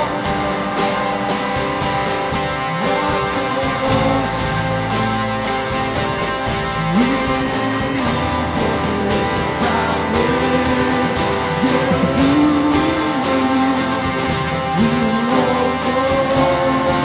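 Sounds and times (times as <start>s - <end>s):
worship band music with guitar: 0.0s - 17.0s.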